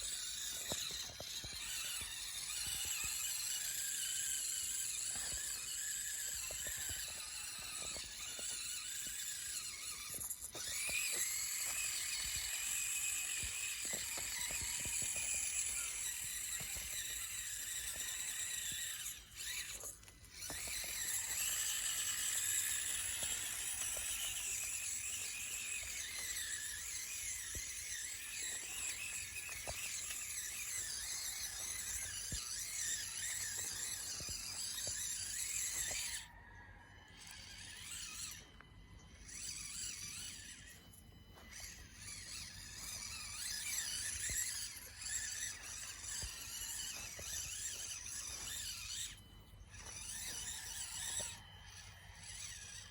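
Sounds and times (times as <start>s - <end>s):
toy truck electric motor whining: 0.0s - 52.9s.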